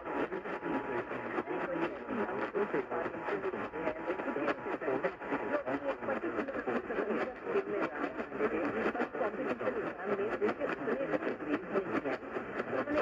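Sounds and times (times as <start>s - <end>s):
muffled radio talk: 0.0s - 13.0s.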